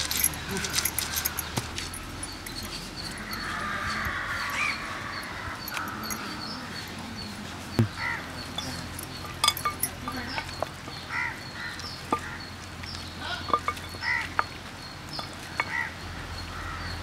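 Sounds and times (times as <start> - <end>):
birds honking calls: 0.0 - 17.0.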